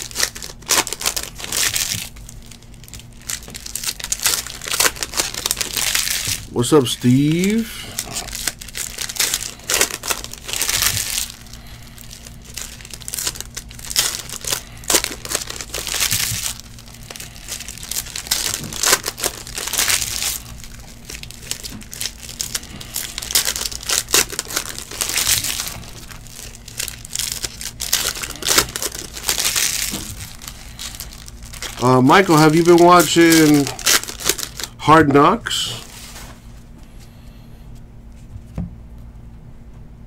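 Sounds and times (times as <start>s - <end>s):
foil wrappers crinkling: 0.0s - 37.0s.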